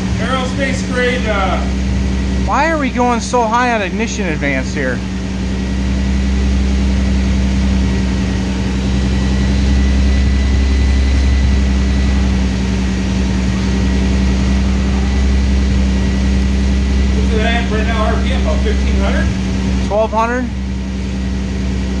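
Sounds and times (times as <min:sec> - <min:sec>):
car engine fast idle: 0:00.0 - 0:22.0.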